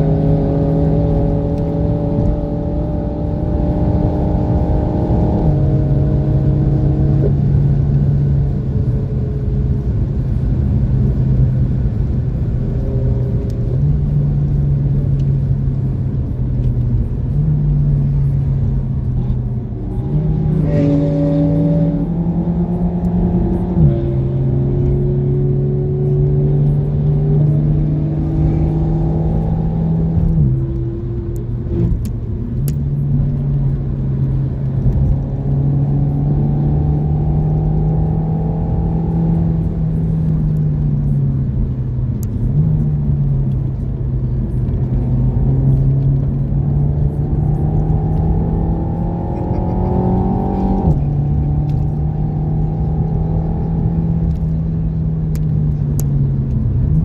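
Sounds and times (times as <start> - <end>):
car engine accelerating: 0.0 - 57.0
tyre and road noise: 0.0 - 57.0.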